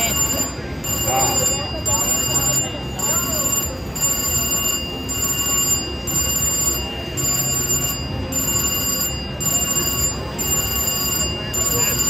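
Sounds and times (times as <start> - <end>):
bell-like electronic ringing: 0.0 - 12.0
low casino background: 0.0 - 12.0
slot machine reels spinning: 0.0 - 12.0.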